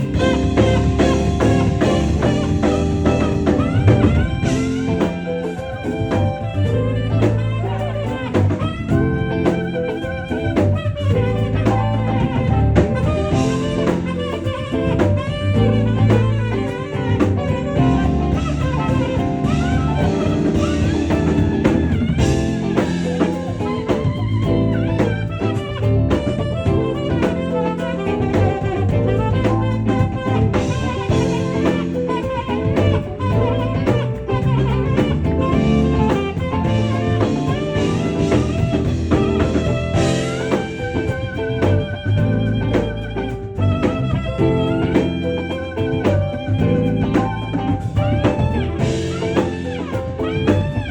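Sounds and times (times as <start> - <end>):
drum kit: 0.0 - 50.9
low accompaniment: 0.0 - 50.9
saxophone melody: 0.0 - 50.9.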